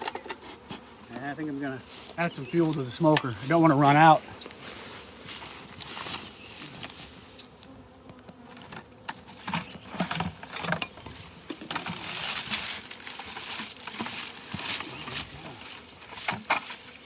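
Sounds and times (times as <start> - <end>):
fuel packed into bee smoker: 0.0 - 17.0
honeybees buzzing: 0.0 - 17.0.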